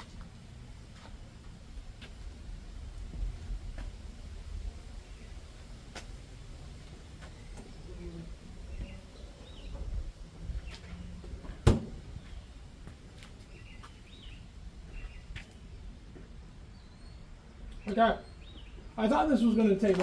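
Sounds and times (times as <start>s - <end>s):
box fan rumbling: 0.0s - 16.8s.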